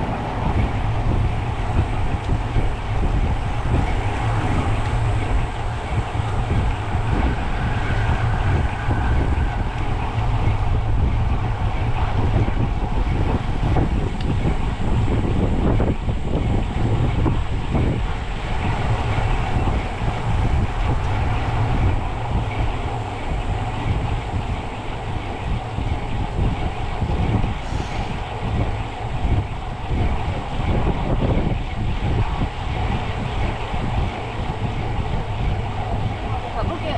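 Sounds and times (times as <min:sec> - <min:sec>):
low road rumble: 0:00.0 - 0:36.9
wind buffeting microphone: 0:00.0 - 0:36.9.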